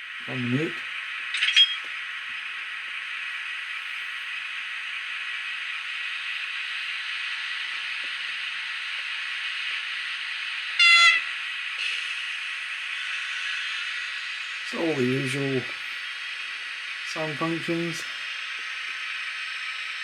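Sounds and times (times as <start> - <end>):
thin hissy engine sound from speaker: 0.0 - 20.0.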